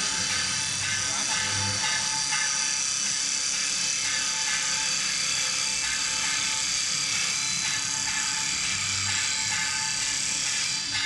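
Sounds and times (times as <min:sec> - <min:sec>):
machine running hum: 0:00.0 - 0:11.0.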